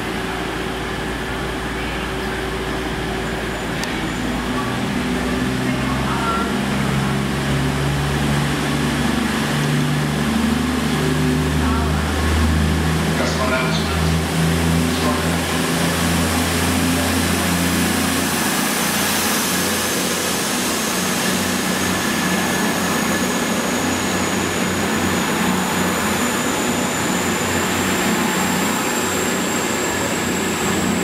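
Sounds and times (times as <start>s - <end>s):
diesel engine hum: 0.0s - 31.0s.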